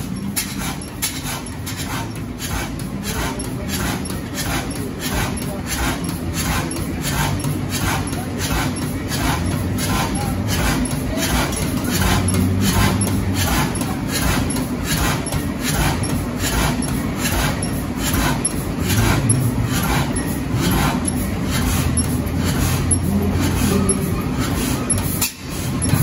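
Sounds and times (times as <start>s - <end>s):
machinery hum: 0.0s - 26.0s
stationary engine slow beat: 0.0s - 26.0s.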